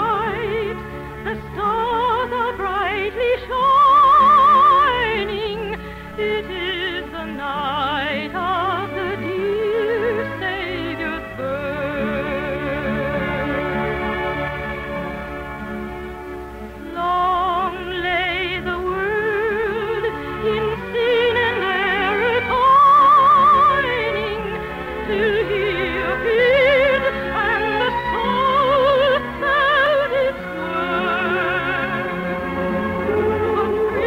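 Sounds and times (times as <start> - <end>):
operatic soprano singing: 0.0 - 14.5, 16.8 - 34.0
orchestral accompaniment: 0.0 - 34.0.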